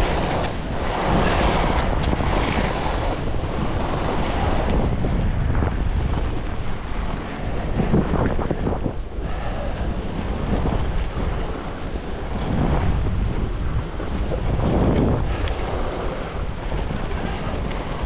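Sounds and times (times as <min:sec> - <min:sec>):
wind buffeting on microphone: 0:00.0 - 0:18.0.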